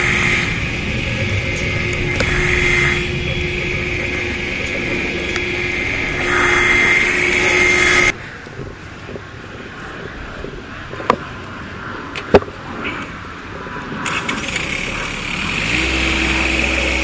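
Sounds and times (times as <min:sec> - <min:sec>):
engine running under load: 0:00.0 - 0:17.0
high whine: 0:00.0 - 0:17.0.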